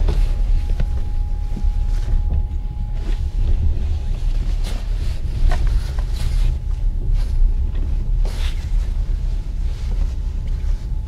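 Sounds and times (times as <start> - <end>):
bedding rustling: 0.0 - 11.0
train carriage rumble: 0.0 - 11.0.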